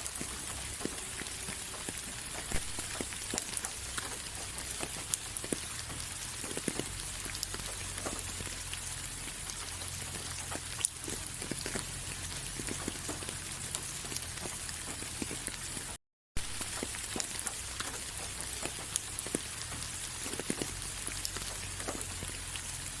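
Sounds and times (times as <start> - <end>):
raindrops ticking on a surface: 0.0 - 23.0
steady rain hiss: 0.0 - 23.0.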